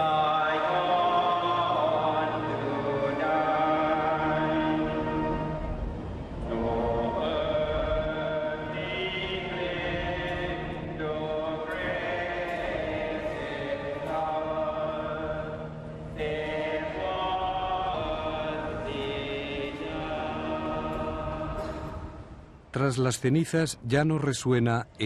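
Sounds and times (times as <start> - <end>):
choir singing chant-like: 0.0 - 22.4.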